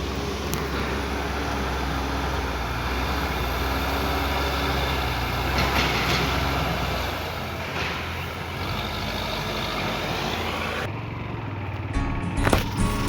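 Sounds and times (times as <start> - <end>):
road and wind rushing noise: 0.0 - 12.8
heavy vehicle engine hum: 0.0 - 13.0.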